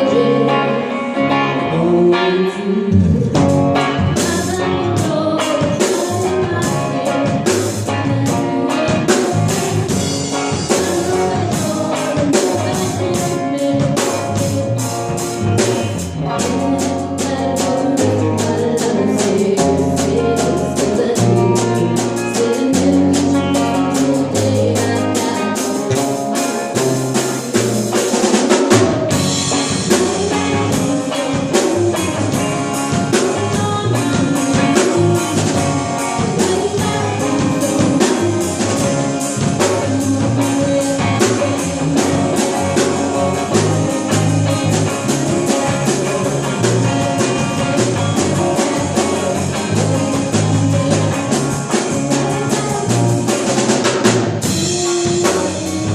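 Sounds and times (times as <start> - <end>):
bass and guitar: 0.0 - 55.9
drum kit beat: 2.9 - 55.9.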